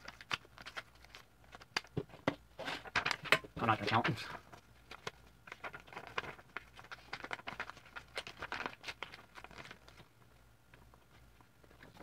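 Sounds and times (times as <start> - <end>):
paper folding and crinkling: 0.0 - 12.0.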